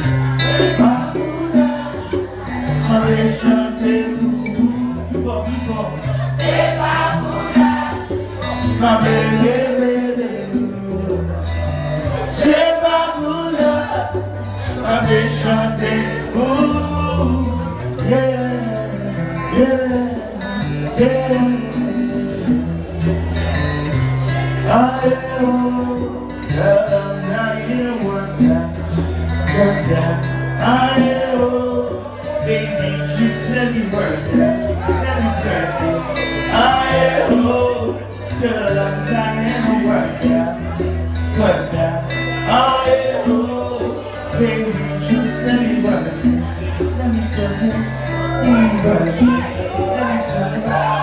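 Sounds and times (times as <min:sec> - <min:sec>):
acoustic guitar: 0:00.0 - 0:51.0
man singing into a microphone: 0:00.0 - 0:51.0
sustained bass notes: 0:00.0 - 0:51.0.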